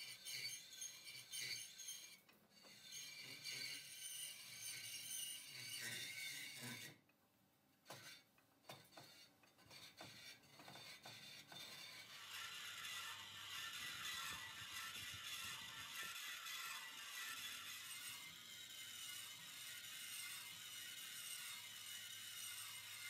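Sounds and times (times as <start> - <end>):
faint metallic scraping: 0.0 - 7.0, 7.8 - 23.0.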